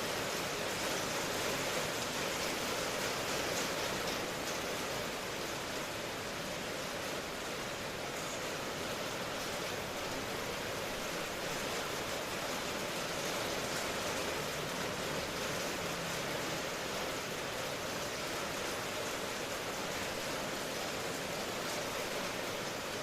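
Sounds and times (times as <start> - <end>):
steady rainfall: 0.0 - 23.0.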